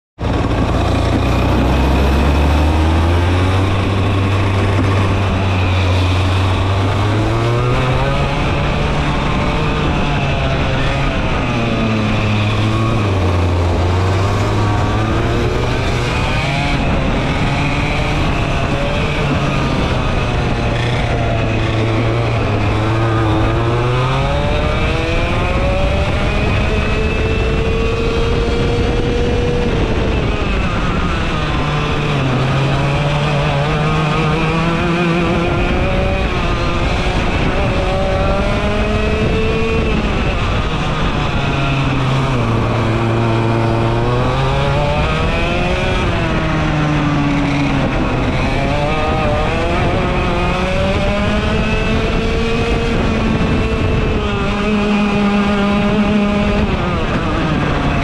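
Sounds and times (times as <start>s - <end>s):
kart engine revving: 0.2s - 58.0s.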